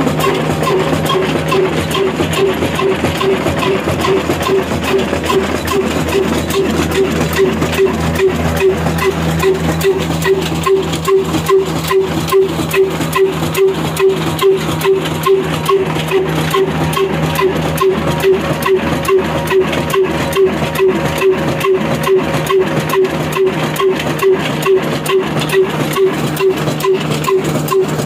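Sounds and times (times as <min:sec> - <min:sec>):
diesel engine running slowly: 0:00.0 - 0:28.0.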